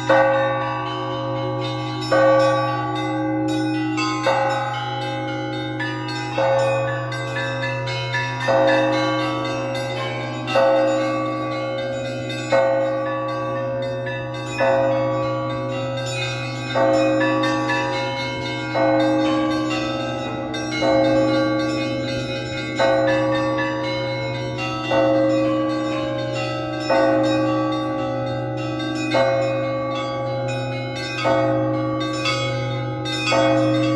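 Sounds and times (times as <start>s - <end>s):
heavy church bell strikes: 0.0s - 33.9s
low bell ringing: 0.0s - 33.9s.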